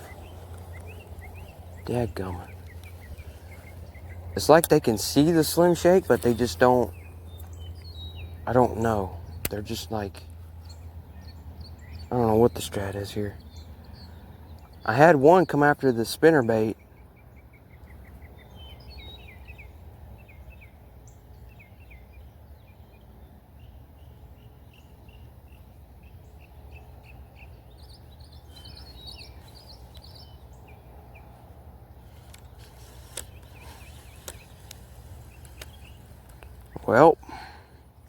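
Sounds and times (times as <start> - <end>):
low outdoor background noise: 0.0 - 38.0
small birds chirping: 0.0 - 38.0.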